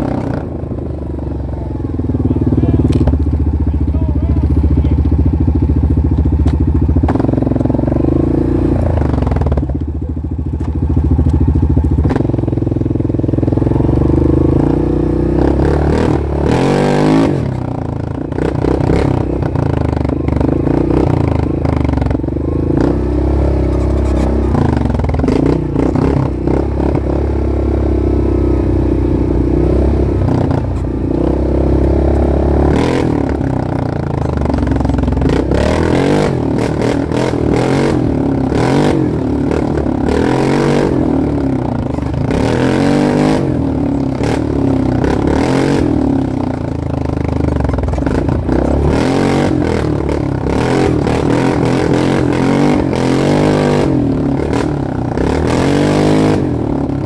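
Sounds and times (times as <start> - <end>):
off-road vehicle engine revving: 0.0 - 10.0, 10.6 - 57.0.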